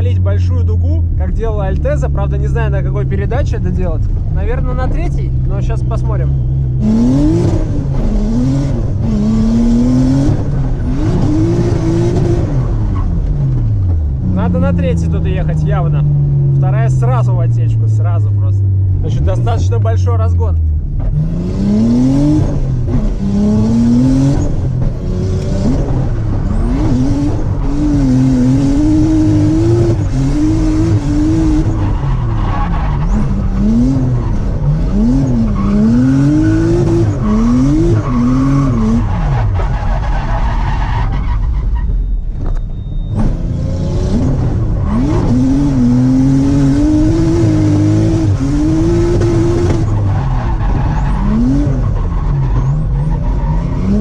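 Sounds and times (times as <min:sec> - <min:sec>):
car engine revving: 0:00.0 - 0:54.0
tyres skidding: 0:00.0 - 0:54.0.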